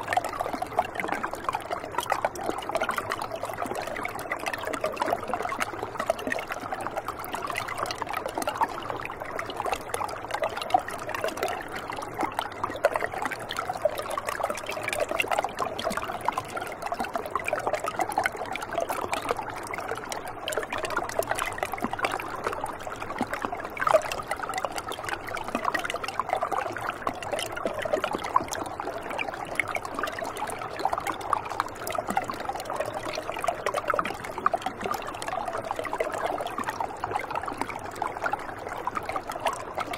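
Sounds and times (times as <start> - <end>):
water trickling over rock: 0.0 - 39.9.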